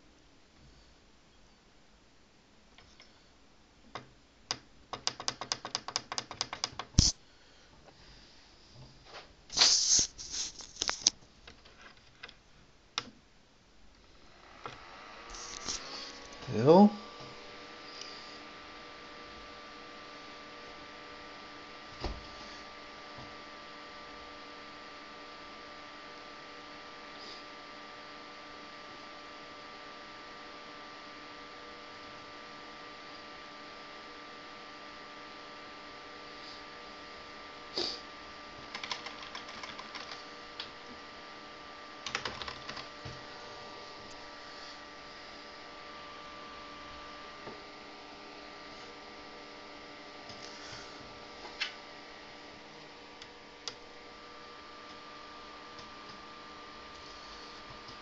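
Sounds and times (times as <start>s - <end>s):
computer electrical hum and whine: 0.0s - 58.0s.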